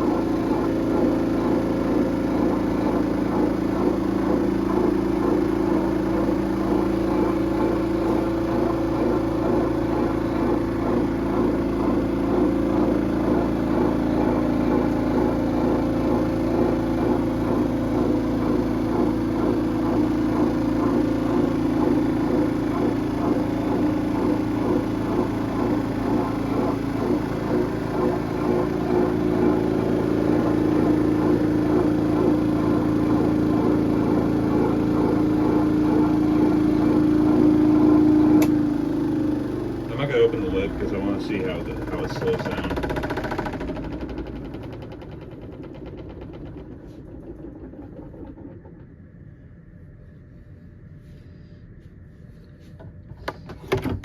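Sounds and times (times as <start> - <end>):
spin dryer motor hum: 0.0 - 54.0.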